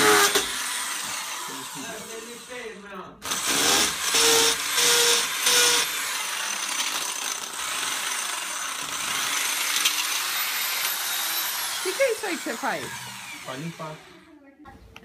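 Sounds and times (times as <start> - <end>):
small electric motor whirring: 0.0 - 2.6, 3.2 - 14.4.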